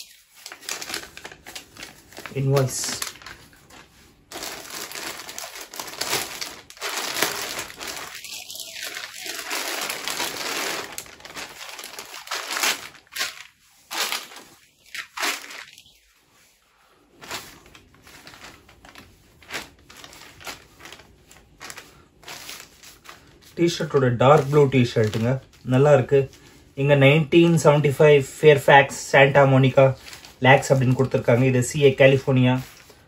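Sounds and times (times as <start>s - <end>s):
plastic bag crinkling: 0.0s - 16.1s, 17.1s - 26.6s, 29.1s - 33.0s.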